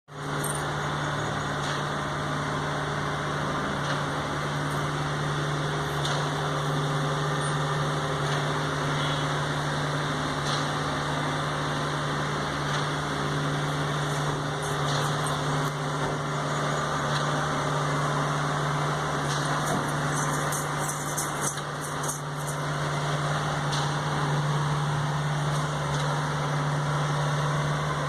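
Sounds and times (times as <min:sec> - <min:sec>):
steady machine hum: 0:00.1 - 0:28.0.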